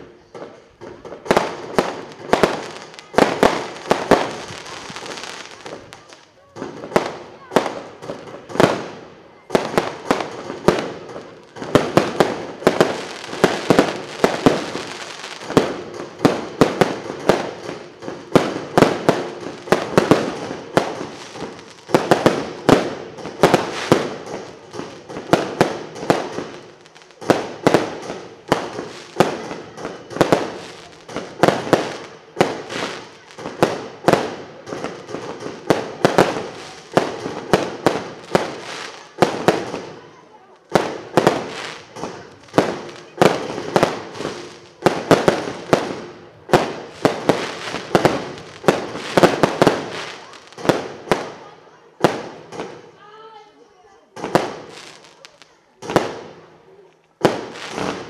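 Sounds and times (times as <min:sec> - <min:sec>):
fireworks bangs: 0:00.0 - 0:53.0, 0:54.1 - 0:58.0.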